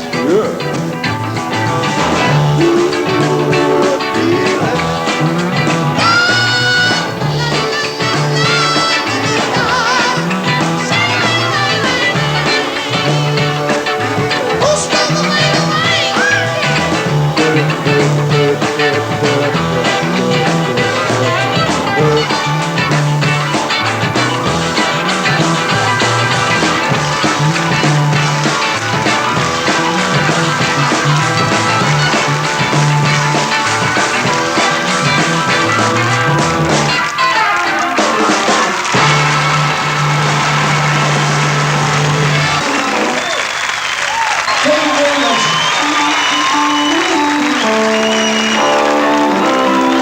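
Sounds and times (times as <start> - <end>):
bass line: 0.0 - 37.1, 38.9 - 43.2
steady drum beat: 0.0 - 37.4, 38.0 - 43.6
guitar: 0.0 - 50.0
live rock band playing: 0.0 - 50.0.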